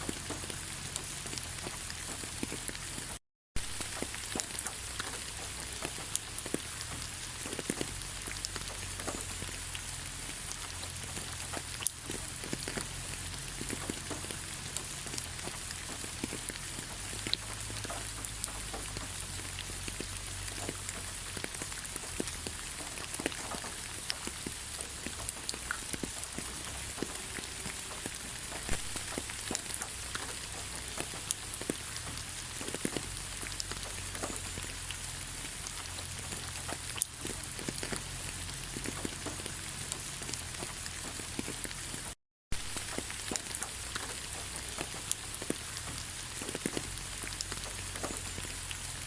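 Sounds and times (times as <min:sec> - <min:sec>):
raindrop taps: 0:00.0 - 0:34.9, 0:35.5 - 0:48.7
steady rain falling: 0:00.0 - 0:49.0.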